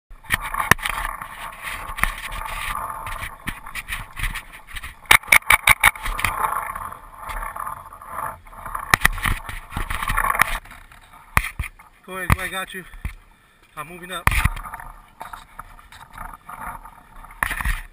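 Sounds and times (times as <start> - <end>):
rough rustling: 0.2 - 17.9.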